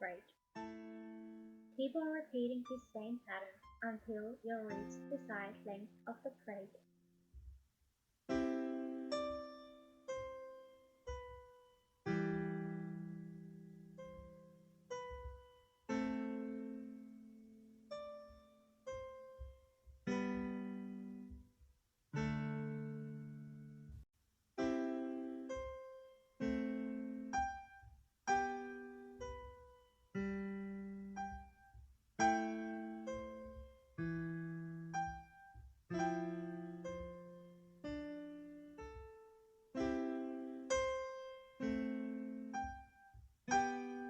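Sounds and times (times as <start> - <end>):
gentle piano music: 0.0 - 1.8, 4.7 - 6.0, 8.3 - 21.6, 22.2 - 44.0.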